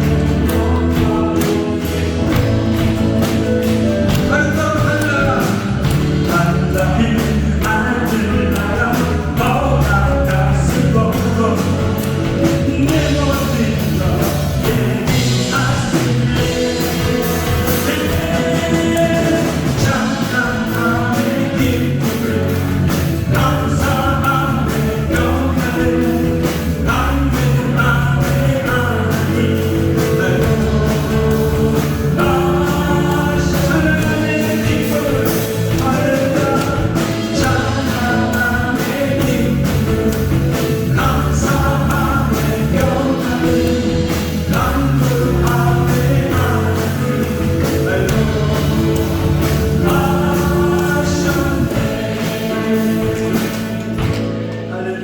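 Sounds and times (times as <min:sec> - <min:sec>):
steady drum beat: 0:00.0 - 0:54.7
worship band playing: 0:00.0 - 0:55.0.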